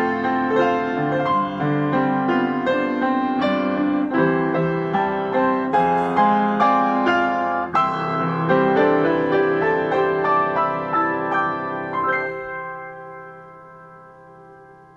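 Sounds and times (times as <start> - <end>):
piano playing jazz ballad: 0.0 - 14.9.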